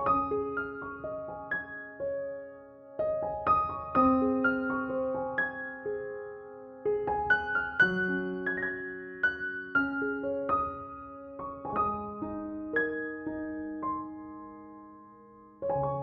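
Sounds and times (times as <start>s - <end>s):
slow solo piano melody: 0.0s - 16.0s.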